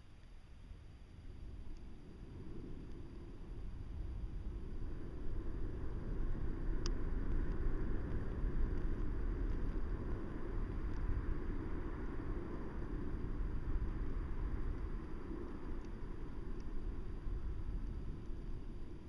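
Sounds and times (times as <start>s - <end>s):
wind buffeting microphone: 1.2s - 19.0s.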